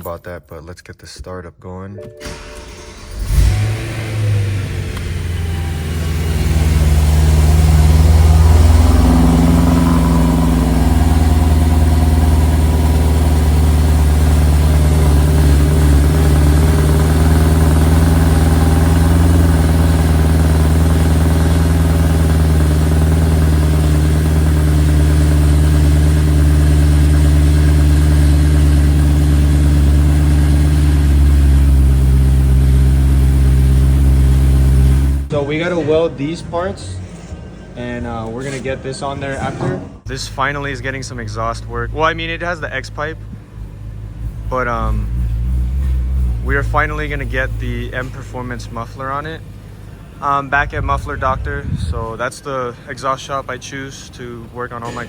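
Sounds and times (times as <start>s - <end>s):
car engine starting and idling: 2.1s - 36.0s, 40.0s - 55.0s.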